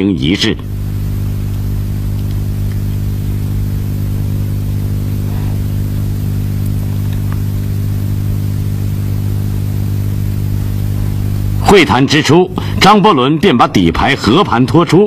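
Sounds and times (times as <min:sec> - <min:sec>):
low hum with overtones: 0:00.0 - 0:15.0.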